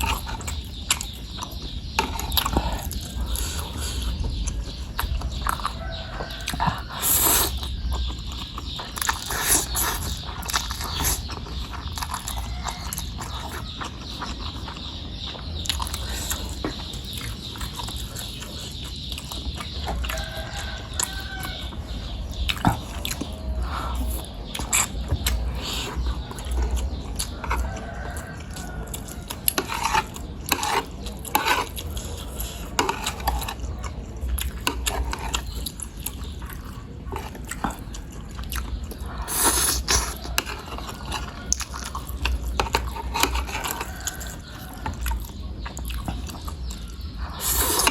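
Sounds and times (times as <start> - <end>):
chewing and biting: 0.0 - 47.9.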